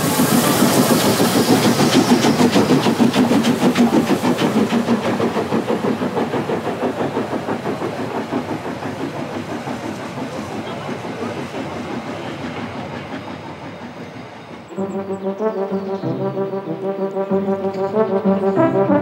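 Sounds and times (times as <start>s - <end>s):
steam hissing: 0.0s - 18.9s
steam locomotive chuffing: 0.0s - 19.0s.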